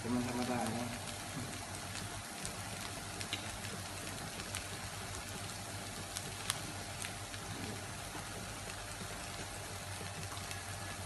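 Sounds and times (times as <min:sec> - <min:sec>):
crackly hiss: 0:00.0 - 0:11.0.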